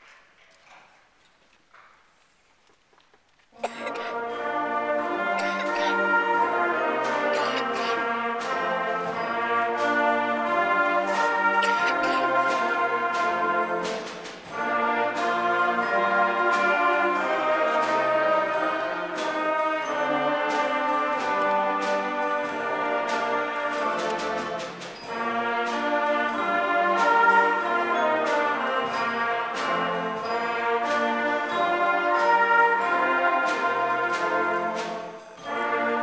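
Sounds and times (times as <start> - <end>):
concert band playing: 3.6 - 36.0.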